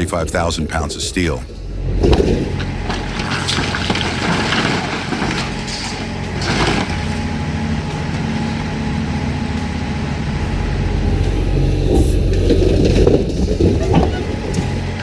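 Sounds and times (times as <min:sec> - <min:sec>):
heavy truck engine running: 0:00.0 - 0:15.0
cracking and scraping: 0:01.8 - 0:15.0.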